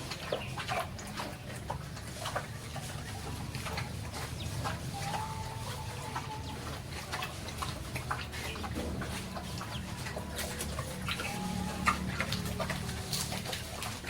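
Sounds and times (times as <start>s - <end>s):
farmyard animal sounds: 0.0s - 14.0s.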